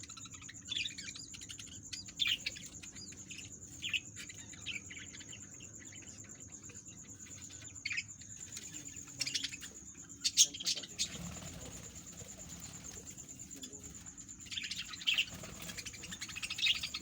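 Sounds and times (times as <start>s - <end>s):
parrot chicks chirping: 0.0s - 17.0s.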